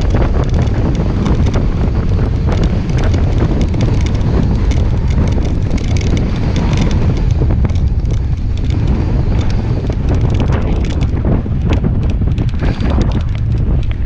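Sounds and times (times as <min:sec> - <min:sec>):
bike rattling on rough trail: 0:00.0 - 0:14.0
wind buffeting microphone: 0:00.0 - 0:14.0.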